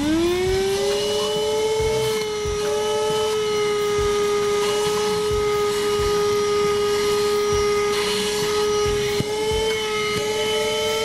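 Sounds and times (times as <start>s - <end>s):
handheld vacuum cleaner whine: 0.0s - 11.0s.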